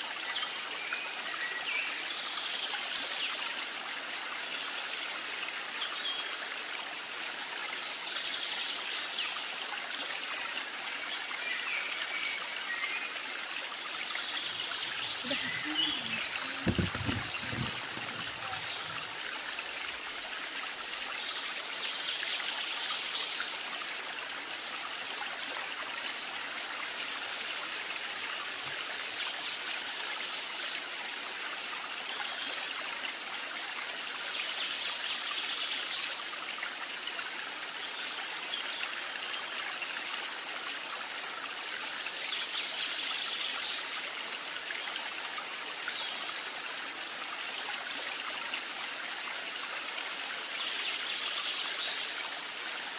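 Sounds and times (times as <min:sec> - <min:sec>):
trickling stream: 0:00.0 - 0:52.9.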